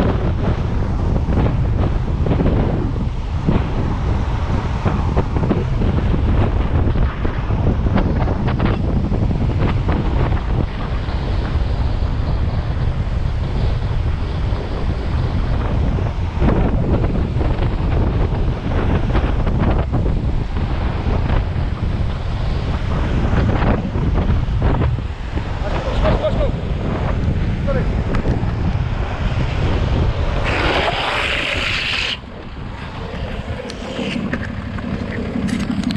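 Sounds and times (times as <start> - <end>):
longboard wheels rolling on asphalt: 0.0 - 35.9
wind buffeting microphone: 0.0 - 35.9.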